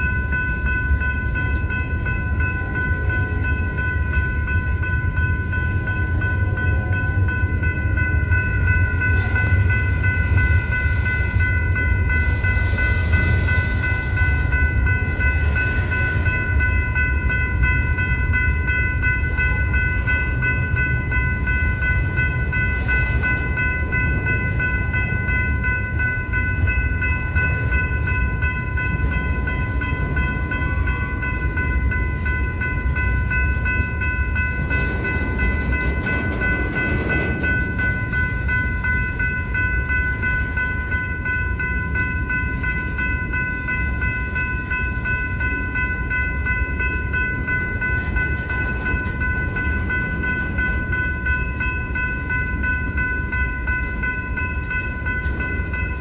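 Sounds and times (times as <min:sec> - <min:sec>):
crossing warning bell ringing: 0:00.0 - 0:56.0
freight train rolling past: 0:00.0 - 0:56.0.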